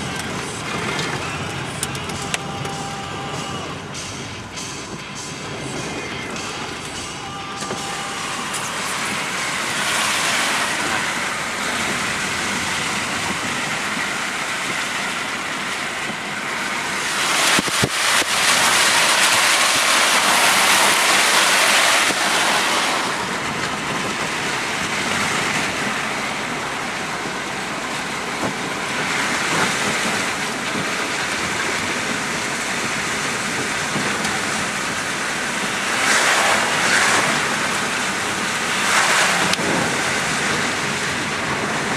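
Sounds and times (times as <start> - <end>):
rain beating on car roof: 0.0 - 41.9
tyres hissing on wet road: 0.0 - 41.9.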